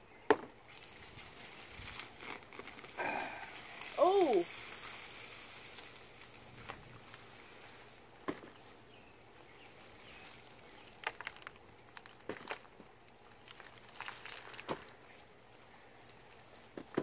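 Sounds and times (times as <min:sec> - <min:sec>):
rustles of digging in soil: 0:00.6 - 0:17.0.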